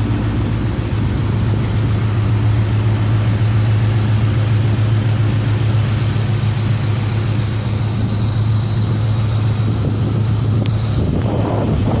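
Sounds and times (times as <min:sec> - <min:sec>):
car engine idling: 0:00.0 - 0:12.0
fast even engine clicking: 0:00.0 - 0:12.0.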